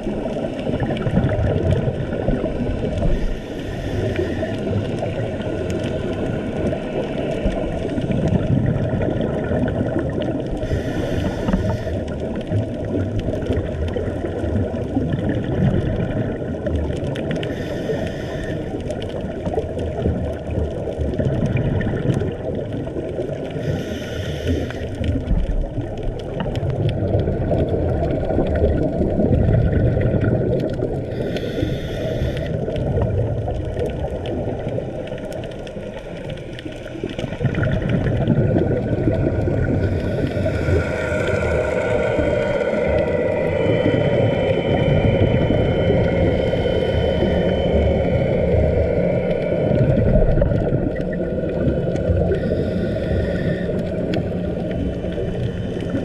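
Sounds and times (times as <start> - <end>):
hiss of exhaled bubbles: 0.0 - 56.0
muffled underwater water rush: 0.0 - 56.0.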